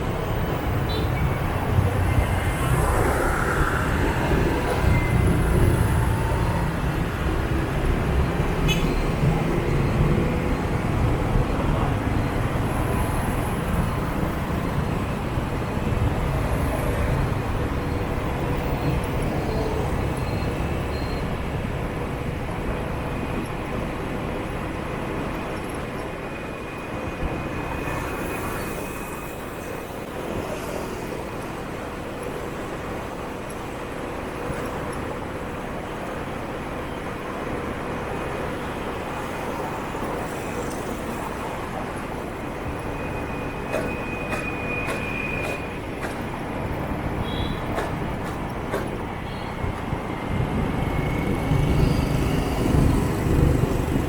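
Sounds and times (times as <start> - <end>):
motorbike engines and road noise: 0.0 - 54.0.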